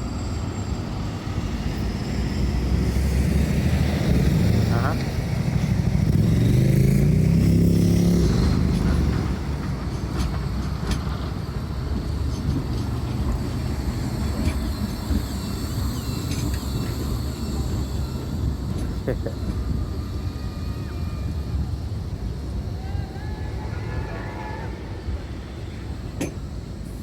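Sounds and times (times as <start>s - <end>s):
tram low rumble: 0.0s - 27.0s
tram motor whining: 0.0s - 27.0s.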